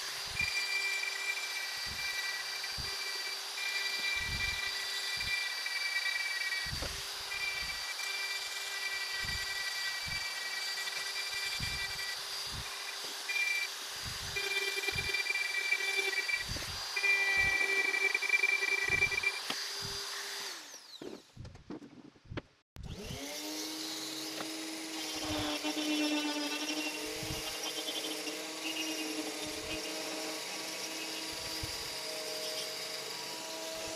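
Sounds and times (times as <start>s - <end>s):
rotary tool whining: 0.0s - 21.6s, 22.8s - 33.9s.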